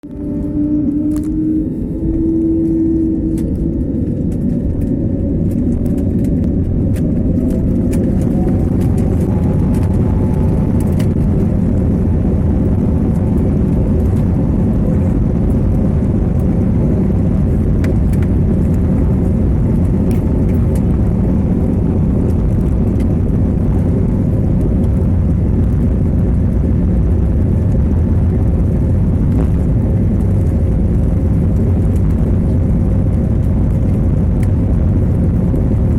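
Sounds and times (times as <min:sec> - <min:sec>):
jet engine rumble: 0:00.0 - 0:35.9
jet engine whine: 0:00.0 - 0:35.9.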